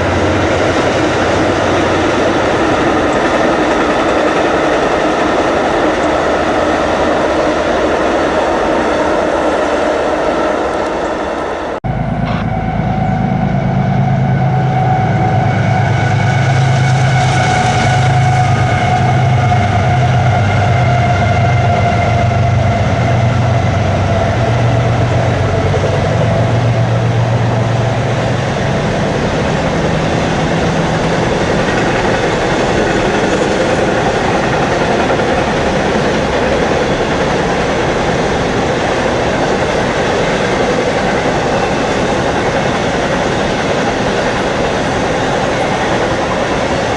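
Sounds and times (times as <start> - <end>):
locomotive engine droning: 0.0 - 46.9
rail cars rumbling and clattering: 0.0 - 46.9.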